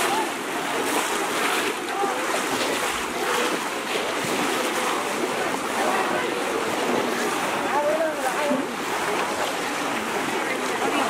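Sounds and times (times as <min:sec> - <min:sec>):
water splashing and churning: 0:00.0 - 0:11.0.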